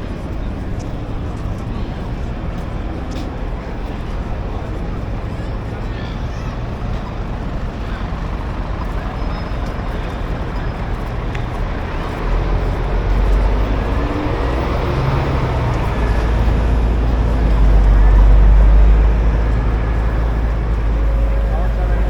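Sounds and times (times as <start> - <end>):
street traffic: 0.0 - 22.0
vehicle engine rumble approaching: 0.0 - 22.0.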